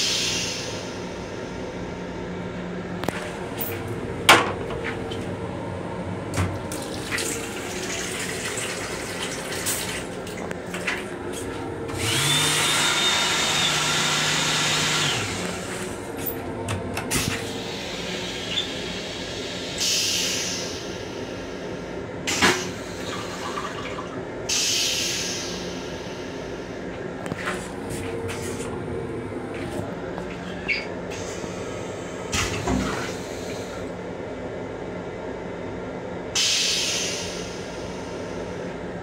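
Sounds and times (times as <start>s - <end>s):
railcar running rumble: 0.0s - 12.3s, 15.0s - 39.0s.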